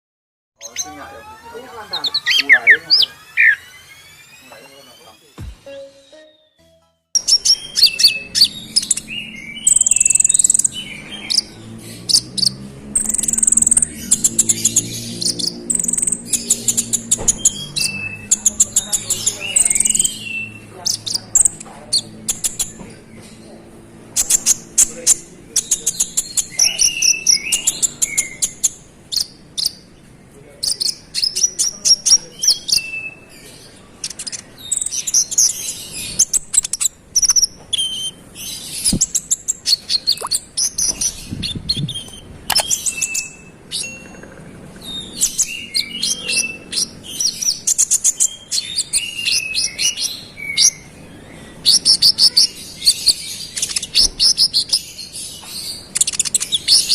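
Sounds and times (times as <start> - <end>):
small bird singing high chirps: 0.6 - 5.0, 7.2 - 30.0, 30.6 - 56.9.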